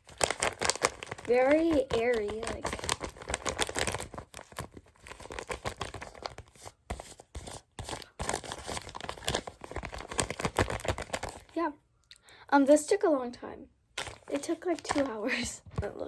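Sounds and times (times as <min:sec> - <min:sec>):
paper crinkling and crackling: 0:00.0 - 0:11.6, 0:14.0 - 0:16.0.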